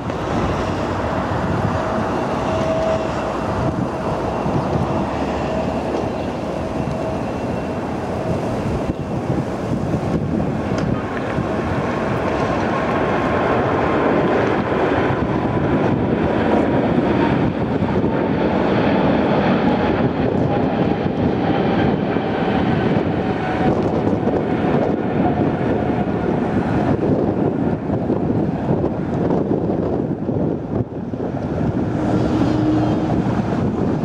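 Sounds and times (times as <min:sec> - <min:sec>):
jet engine roar: 0:00.0 - 0:34.0
jet engine whine: 0:00.0 - 0:34.0.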